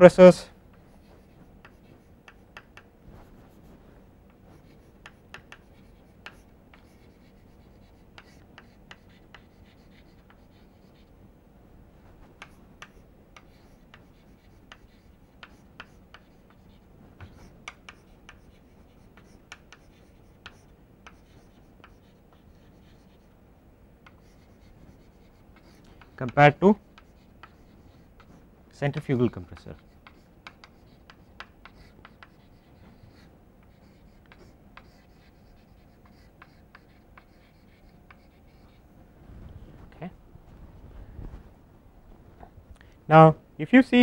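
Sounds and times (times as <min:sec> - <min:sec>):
chalk tapping and scratching on board: 0:00.7 - 0:11.1, 0:12.2 - 0:23.4, 0:24.0 - 0:38.8.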